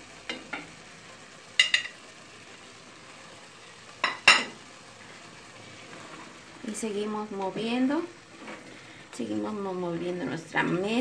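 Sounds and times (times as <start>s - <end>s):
pot contents sizzling: 0.0s - 11.0s.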